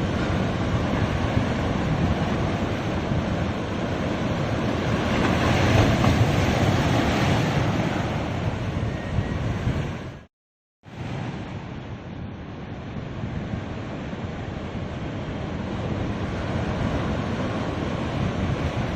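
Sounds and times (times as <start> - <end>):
waves breaking on a beach: 0.0 - 10.3, 10.9 - 18.9
wind on microphone: 0.0 - 10.3, 10.9 - 18.9.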